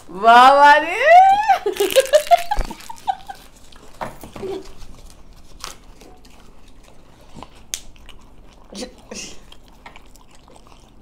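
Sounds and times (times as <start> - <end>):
chocolate wrappers crinkling: 1.5 - 10.4.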